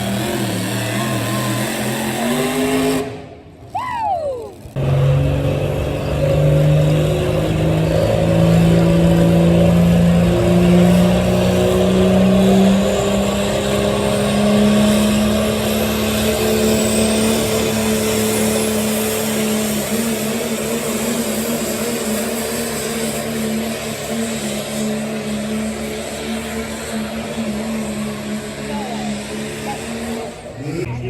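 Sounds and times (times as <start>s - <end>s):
truck engine at full throttle: 0.0s - 31.0s.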